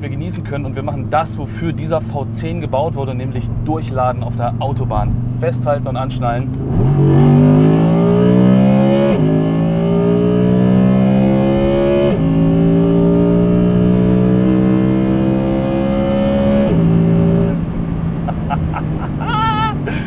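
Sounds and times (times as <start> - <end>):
car engine at full throttle: 0.0 - 20.0.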